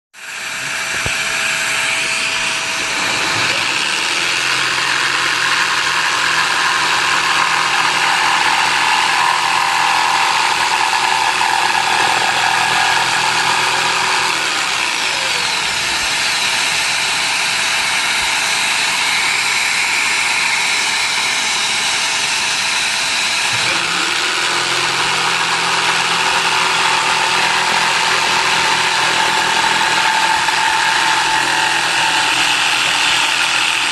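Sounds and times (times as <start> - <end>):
electric jigsaw sawing wood: 0.2 - 33.9.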